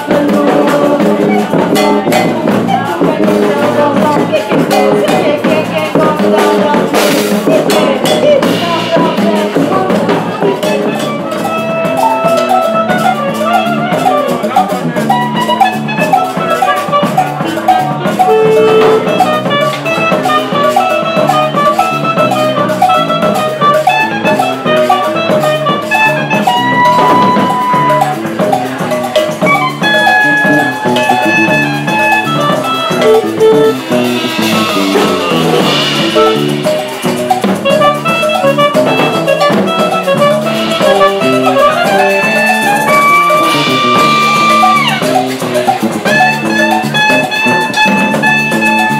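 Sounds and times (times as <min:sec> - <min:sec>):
clarinet melody: 0:00.0 - 0:48.9
drum kit: 0:00.0 - 0:48.9
electric bass: 0:00.0 - 0:48.9.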